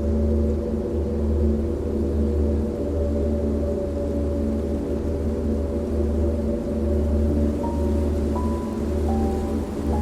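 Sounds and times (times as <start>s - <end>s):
dark ambient drone music: 0.0s - 10.0s.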